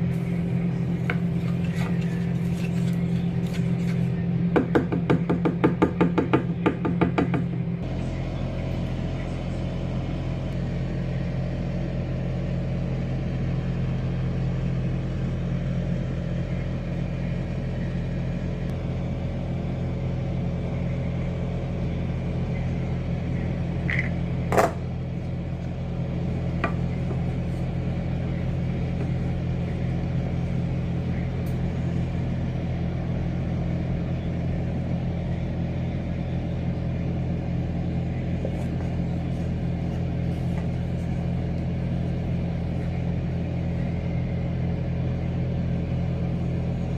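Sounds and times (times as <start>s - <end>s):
air fryer fan hum: 0.0s - 46.9s.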